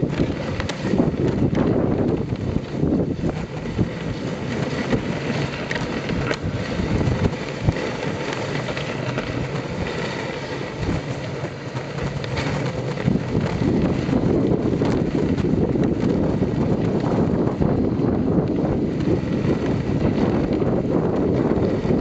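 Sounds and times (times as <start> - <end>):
sled sliding over packed snow: 0.0 - 22.0
wind buffeting microphone: 0.0 - 22.0.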